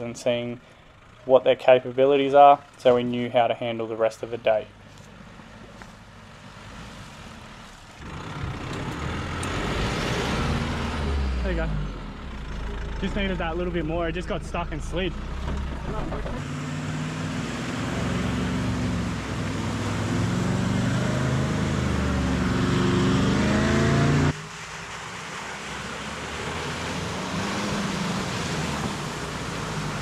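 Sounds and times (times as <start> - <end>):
off-road vehicle engine crawling: 0.0 - 30.0
vehicle driving through puddle: 5.0 - 30.0.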